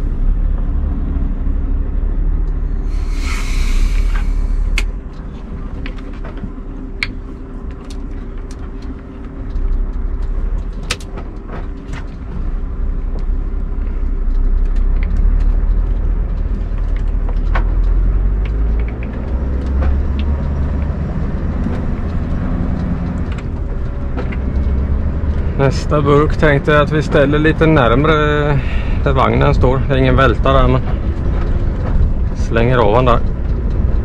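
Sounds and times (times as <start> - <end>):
diesel truck engine rumble: 0.0 - 34.0.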